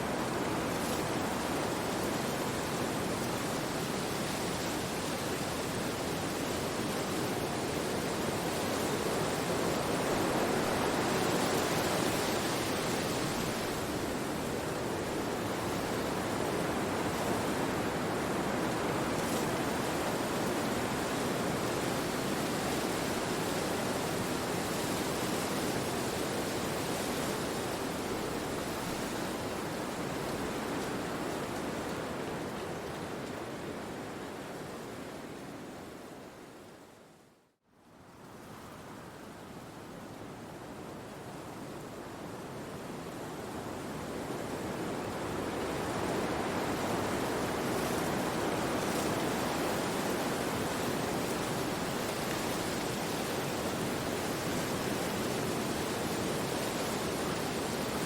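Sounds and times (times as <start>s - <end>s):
wind through forest trees: 0.0s - 58.0s.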